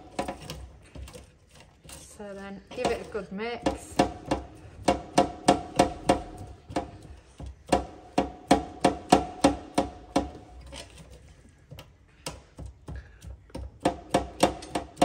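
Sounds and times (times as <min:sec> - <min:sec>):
spatula knocking metal basket: 0:00.0 - 0:11.1, 0:11.7 - 0:15.0.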